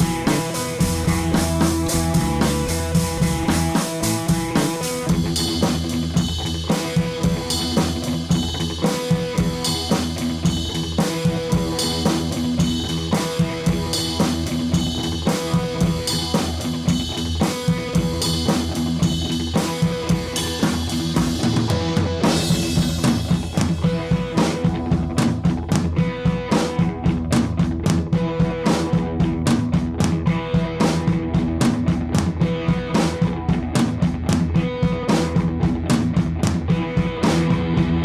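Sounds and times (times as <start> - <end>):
background music with drum beat: 0.0 - 38.0.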